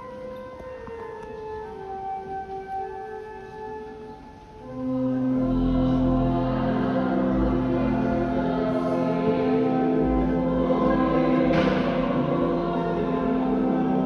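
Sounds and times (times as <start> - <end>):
choir singing church music: 0.0 - 14.0.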